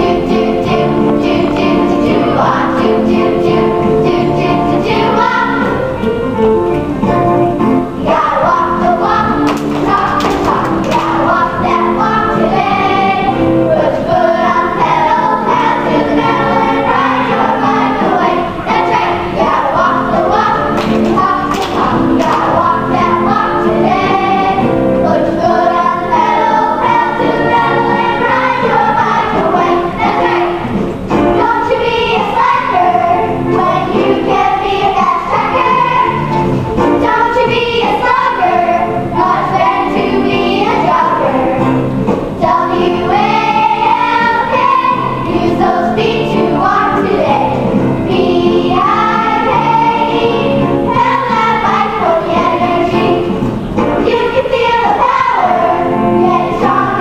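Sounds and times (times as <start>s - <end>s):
children singing together: 0.0s - 57.0s
musical accompaniment: 0.0s - 57.0s.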